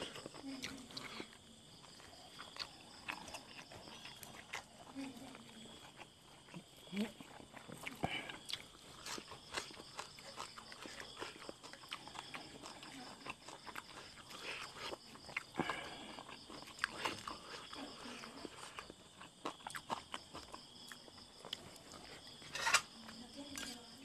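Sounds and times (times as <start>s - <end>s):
chewing and lip smacks: 0.0s - 22.3s.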